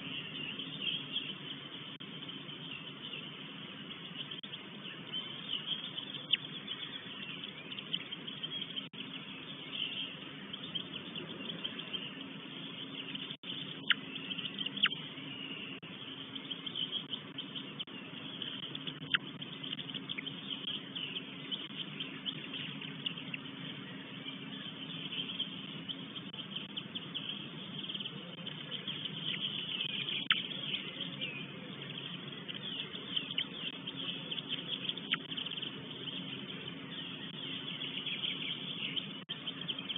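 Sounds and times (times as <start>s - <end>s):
small birds chirping and singing: 0.0s - 39.9s
steady low hum: 0.0s - 39.9s.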